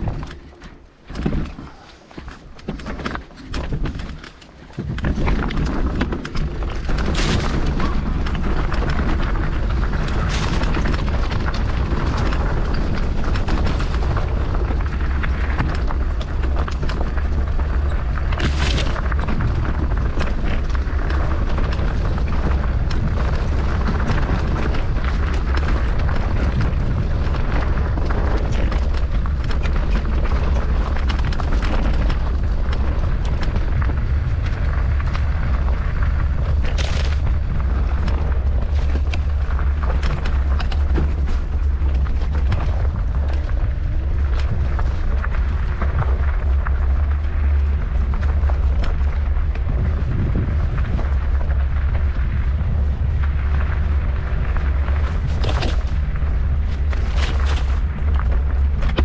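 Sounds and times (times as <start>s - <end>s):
wind buffeting microphone: 0.0s - 1.8s, 3.6s - 59.0s
bike tyres rattling over ground: 0.0s - 59.0s.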